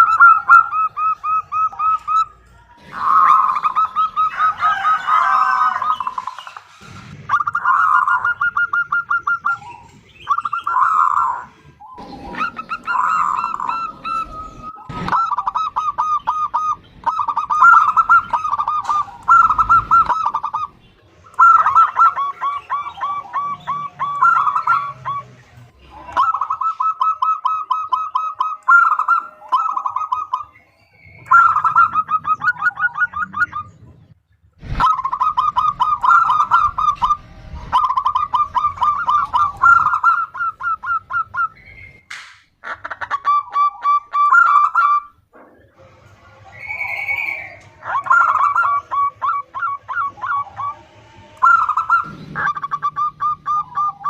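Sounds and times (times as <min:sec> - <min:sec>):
dove cooing: 0:00.0 - 0:42.0, 0:42.6 - 0:54.0.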